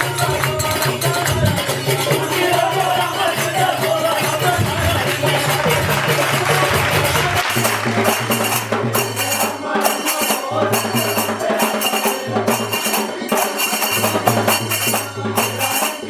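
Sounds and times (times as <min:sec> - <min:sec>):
brass hand cymbals clashing: 0:00.0 - 0:16.0
devotional music: 0:00.0 - 0:16.0.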